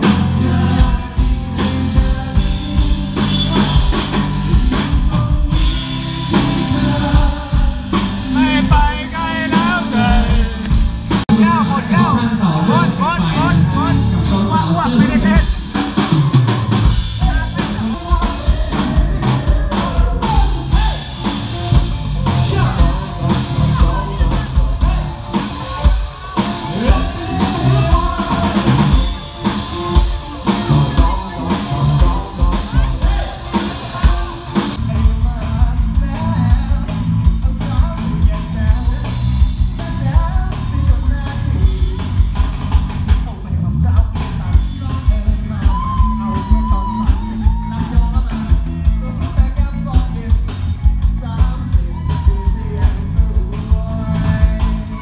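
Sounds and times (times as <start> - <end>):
drum kit beat: 0.0 - 55.0
live rock band playing: 0.0 - 55.0
person singing: 0.0 - 55.0.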